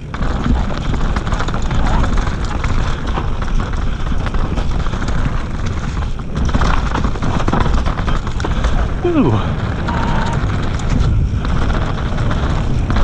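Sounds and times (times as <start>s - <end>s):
bike knocks and rattles: 0.0s - 13.0s
tyres rolling over dirt and leaves: 0.0s - 13.0s
wind rumble on microphone: 0.0s - 13.0s.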